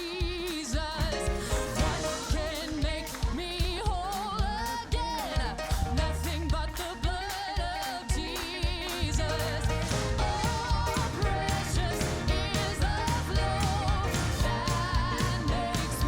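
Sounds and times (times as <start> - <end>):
gospel band playing: 0.0 - 16.0
steady drum beat: 0.0 - 16.0
singers holding long notes: 1.2 - 16.0.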